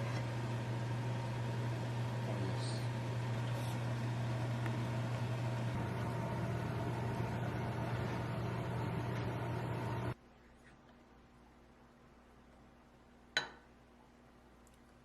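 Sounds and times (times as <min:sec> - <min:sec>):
appliance hum: 0:00.0 - 0:14.0.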